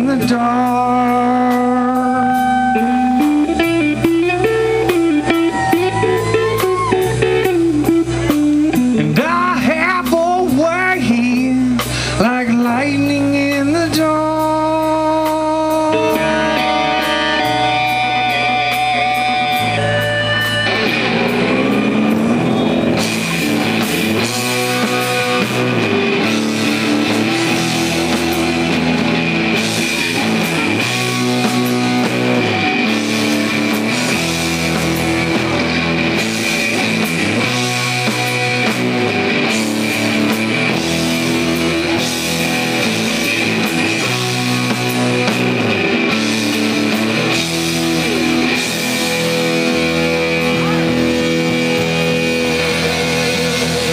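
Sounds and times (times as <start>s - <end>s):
rock band playing loud: 0.0s - 53.9s.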